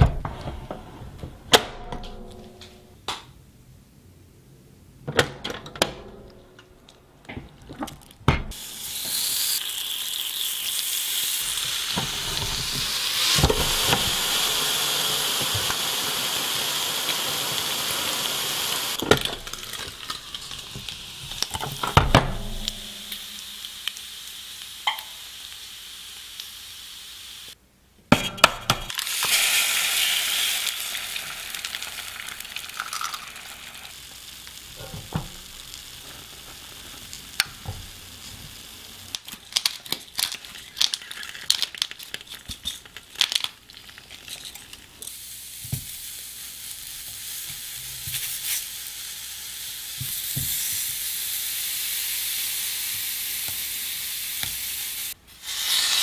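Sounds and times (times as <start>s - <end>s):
food sizzling on a griddle: 8.5s - 27.6s, 28.9s - 56.0s.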